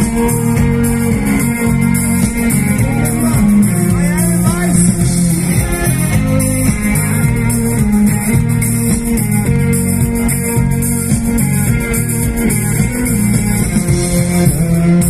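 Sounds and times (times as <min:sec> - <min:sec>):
live pop-rock band: 0:00.0 - 0:15.0.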